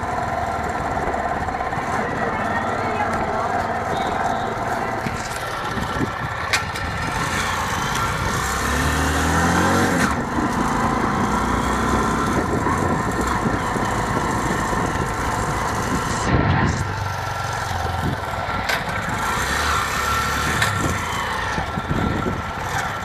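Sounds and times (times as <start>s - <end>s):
motorcycle engine revving: 0.0s - 23.0s
wind and road noise: 0.0s - 23.0s.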